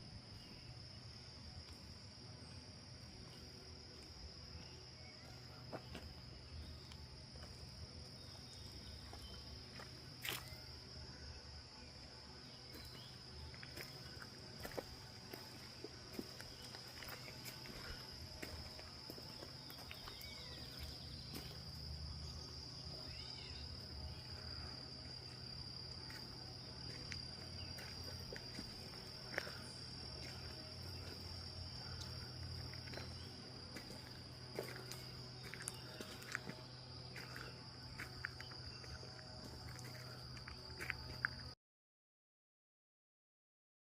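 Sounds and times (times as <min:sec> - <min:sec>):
low steady hum: 0:00.0 - 0:41.5
high-pitched insect chorus: 0:00.0 - 0:41.6.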